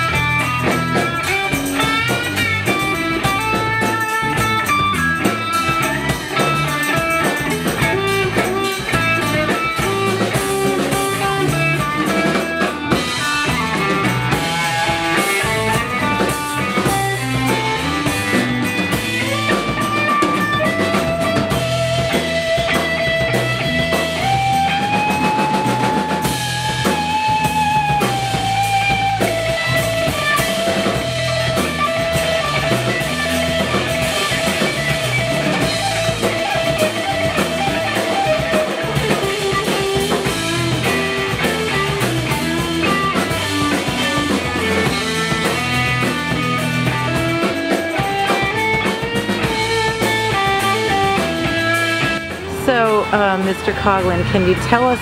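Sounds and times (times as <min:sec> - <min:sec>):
electric guitar long notes: 0:00.0 - 0:55.0
rock band playing: 0:00.0 - 0:55.0.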